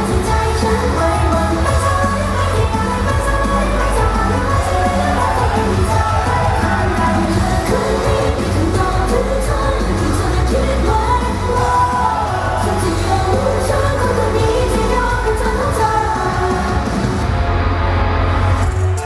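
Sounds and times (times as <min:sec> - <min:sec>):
women singing pop song: 0:00.0 - 0:17.1
steady drum beat: 0:00.0 - 0:17.3
amplified music with heavy bass: 0:00.0 - 0:19.0.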